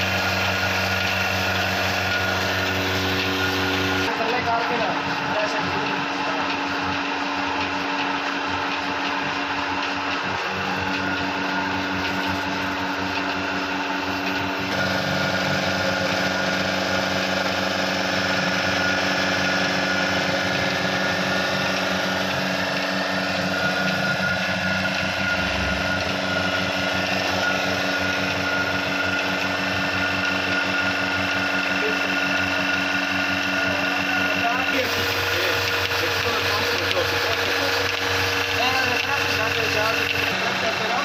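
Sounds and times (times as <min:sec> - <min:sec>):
milking machine motor humming: 0:00.0 - 0:41.0.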